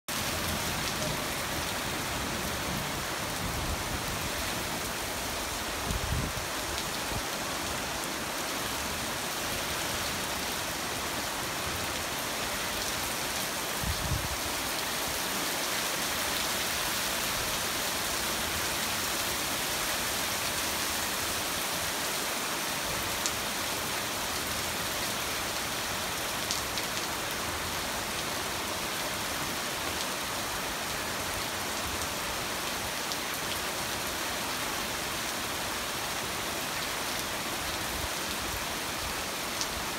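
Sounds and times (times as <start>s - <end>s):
heavy rain on a street: 0.1s - 39.9s.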